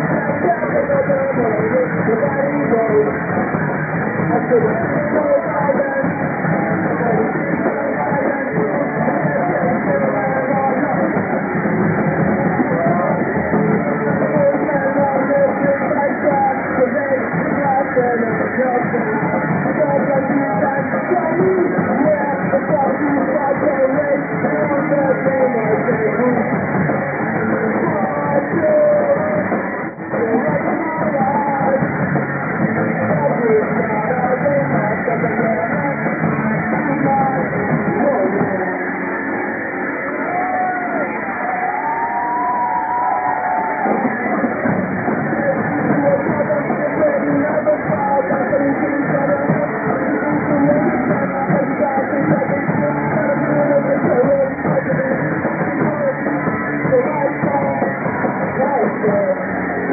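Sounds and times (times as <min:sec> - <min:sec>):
person singing: 0:00.0 - 0:03.3, 0:04.1 - 0:39.0, 0:40.2 - 0:59.9
rock band playing live: 0:00.0 - 0:59.9.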